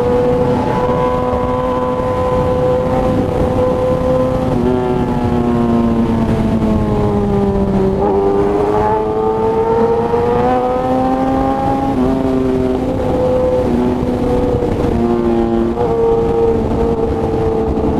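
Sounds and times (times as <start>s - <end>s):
motorcycle engine revving: 0.0s - 17.9s
wind rush: 0.0s - 17.9s.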